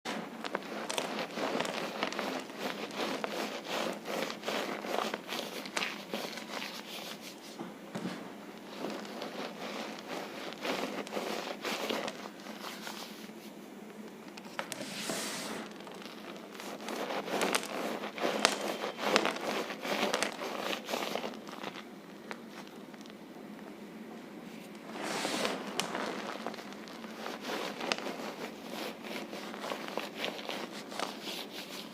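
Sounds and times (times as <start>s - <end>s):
cornstarch squeaky crunching: 0.1s - 7.4s, 8.6s - 13.3s, 15.6s - 23.2s, 25.4s - 31.9s.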